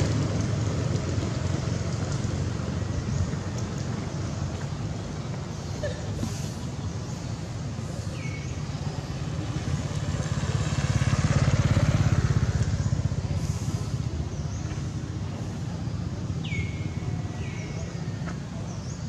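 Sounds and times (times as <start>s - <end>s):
vehicle engine passing by: 0.0s - 5.6s, 6.3s - 19.0s.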